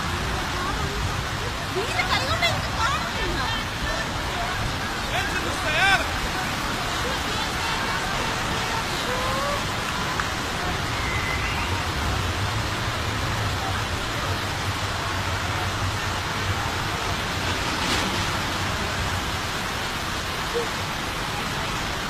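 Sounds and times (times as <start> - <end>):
rain hissing: 0.0 - 22.0
rushing floodwater: 0.0 - 22.0.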